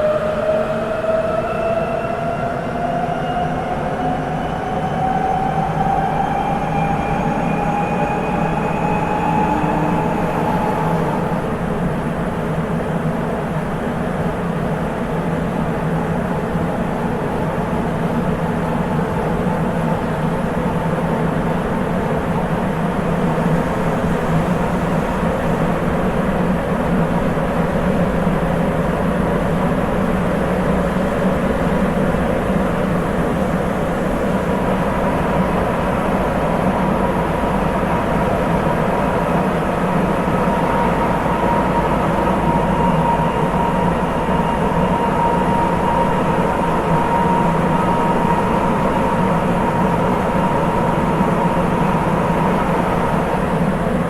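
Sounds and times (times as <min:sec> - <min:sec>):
train interior rumble: 0:00.0 - 0:54.0.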